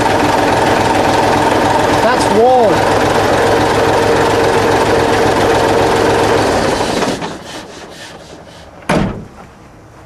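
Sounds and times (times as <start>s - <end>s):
diesel engine running with whine: 0.0s - 8.8s.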